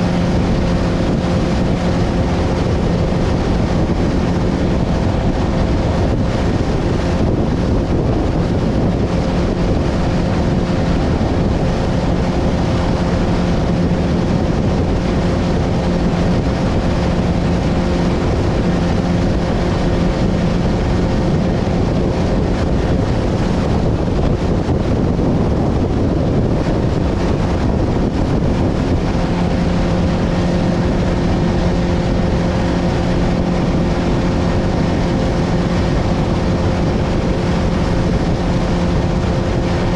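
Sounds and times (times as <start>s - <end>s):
boat motor droning: 0.0s - 39.9s
boat over choppy water: 0.0s - 39.9s
wind buffeting microphone: 0.0s - 39.9s.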